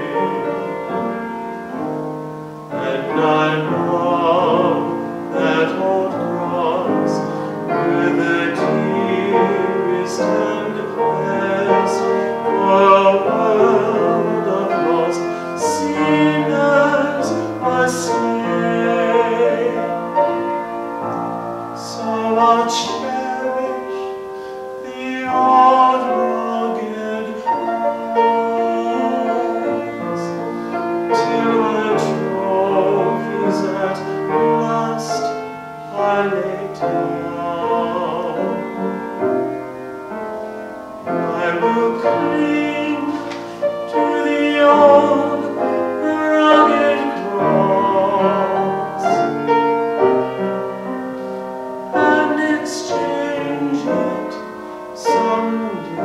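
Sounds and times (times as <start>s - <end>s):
person singing: 0.0s - 56.0s
piano accompaniment: 0.0s - 56.0s.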